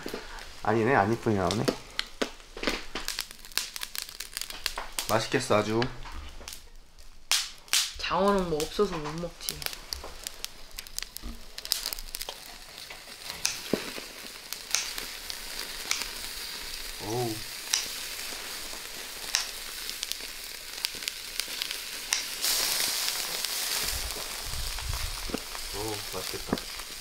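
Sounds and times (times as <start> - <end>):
fish sizzling on a grill: 0.0 - 27.0.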